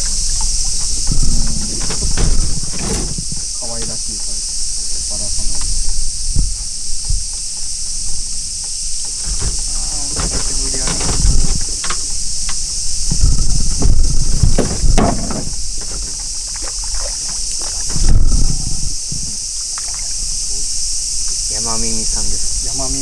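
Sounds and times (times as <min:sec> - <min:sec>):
knocks and clatters in boat: 0:00.0 - 0:20.7
insects droning: 0:00.0 - 0:23.0.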